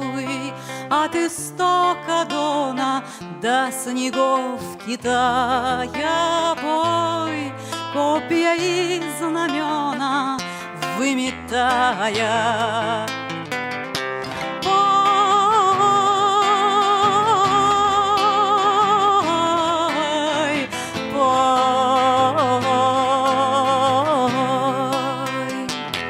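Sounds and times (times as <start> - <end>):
acoustic guitar: 0.0 - 26.0.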